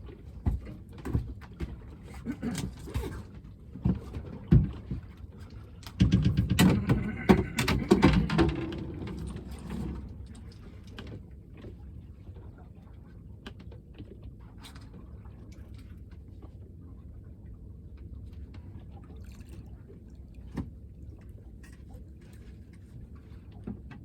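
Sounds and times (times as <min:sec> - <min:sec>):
clattering and thumping on boat: 0:00.0 - 0:16.7, 0:19.8 - 0:24.0.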